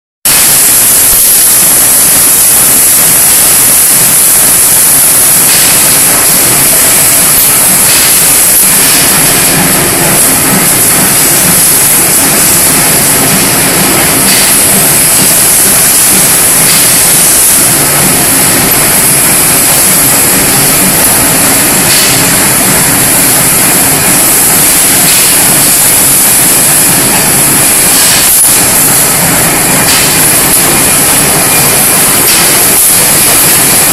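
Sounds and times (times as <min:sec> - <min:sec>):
bending machine running: 0:00.3 - 0:33.9.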